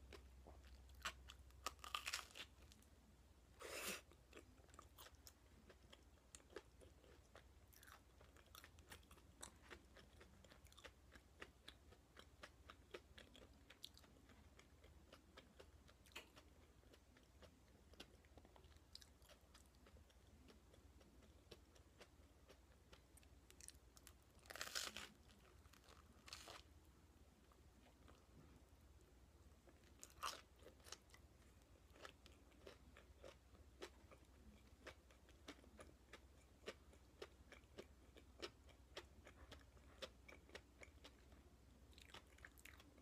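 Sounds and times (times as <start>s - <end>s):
chewing toast with crunches: 0.0s - 2.9s, 4.0s - 26.7s, 29.6s - 43.0s.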